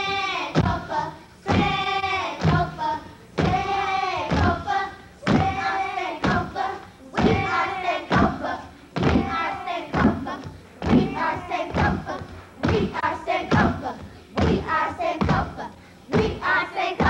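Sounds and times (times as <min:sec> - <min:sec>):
children chanting together: 0:00.0 - 0:17.0.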